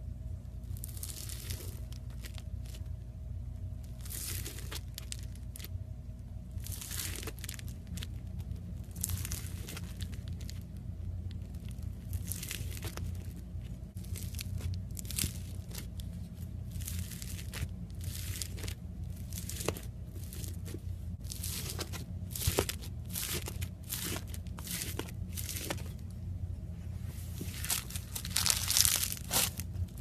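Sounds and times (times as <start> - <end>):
steady low hum: 0.0 - 30.0
slime crackling and tearing: 0.6 - 2.9, 3.8 - 5.8, 6.5 - 26.1, 27.4 - 30.0.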